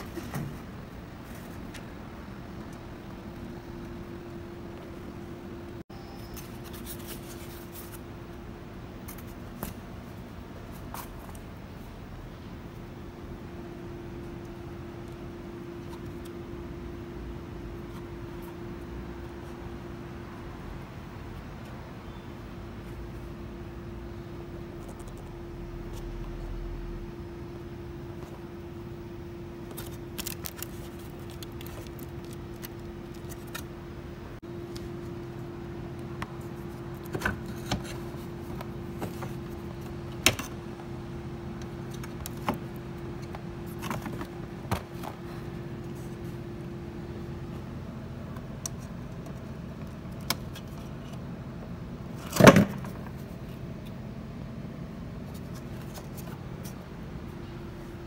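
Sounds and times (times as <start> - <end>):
low hum and hiss: 0.0 - 58.0.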